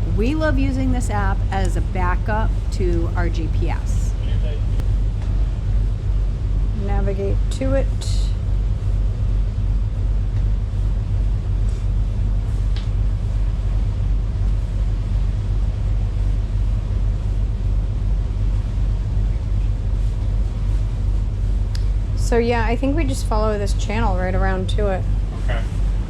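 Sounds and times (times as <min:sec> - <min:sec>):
motorboat engines rumbling: 0:00.0 - 0:26.0.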